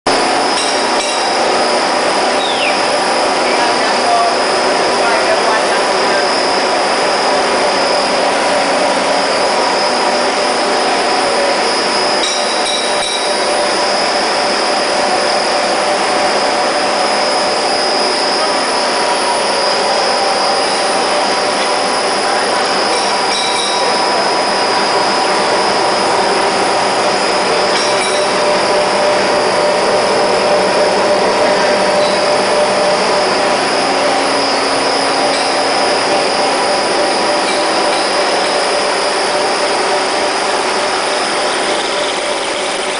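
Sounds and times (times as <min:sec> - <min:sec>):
loud steady machine noise: 0:00.0 - 0:42.9
steady machine whining tones: 0:00.1 - 0:42.9.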